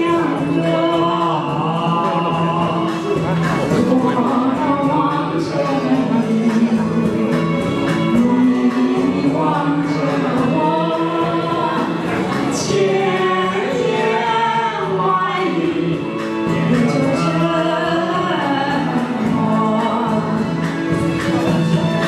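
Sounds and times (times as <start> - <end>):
karaoke backing track: 0.0 - 22.0
woman and man singing duet: 0.0 - 22.0.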